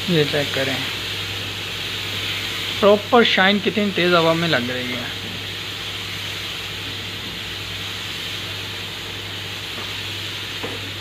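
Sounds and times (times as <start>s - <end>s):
spray gun hissing: 0.0s - 11.0s.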